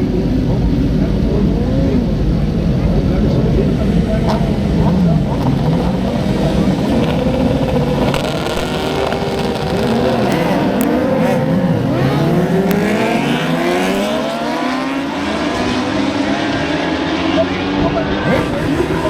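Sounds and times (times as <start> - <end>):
motorcycles revving: 0.0 - 19.0.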